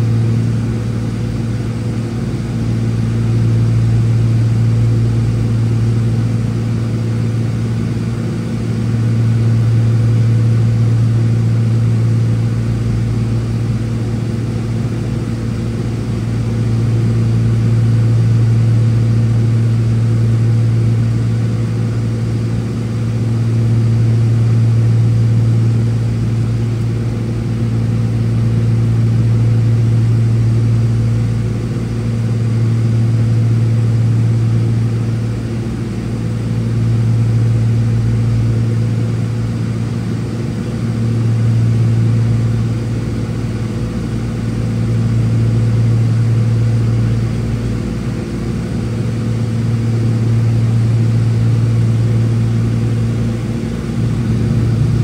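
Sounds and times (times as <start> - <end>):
aircraft engines droning in cabin: 0.0 - 55.0.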